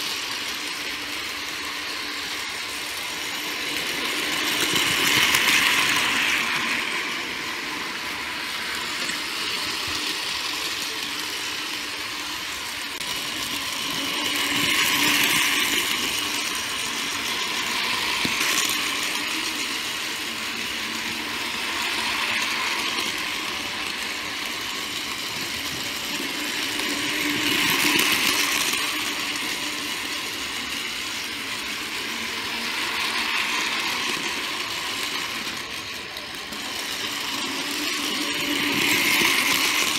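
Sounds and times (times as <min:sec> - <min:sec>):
toy train motors whirring: 0:00.0 - 0:39.9.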